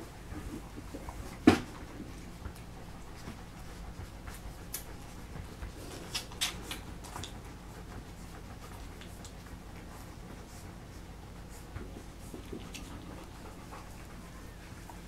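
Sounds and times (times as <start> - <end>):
puppies suckling: 0.0 - 15.0.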